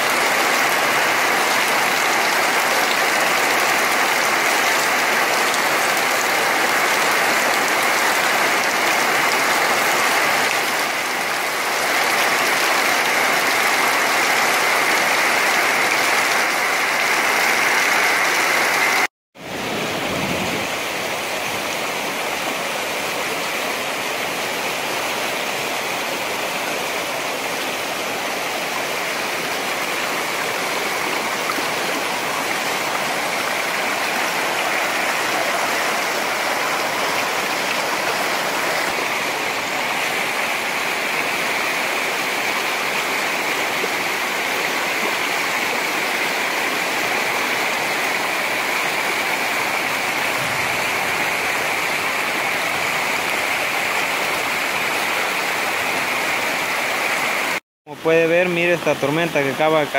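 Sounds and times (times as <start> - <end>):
floodwater rushing over rocks: 0.0 - 59.9.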